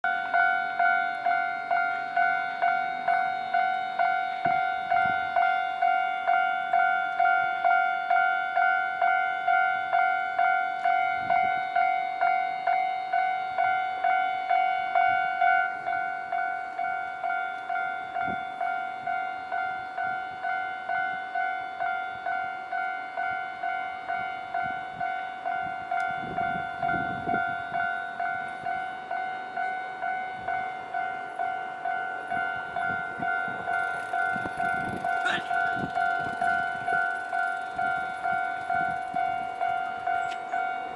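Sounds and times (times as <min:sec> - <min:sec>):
level-crossing warning bell ringing: 0:00.0 - 0:40.9.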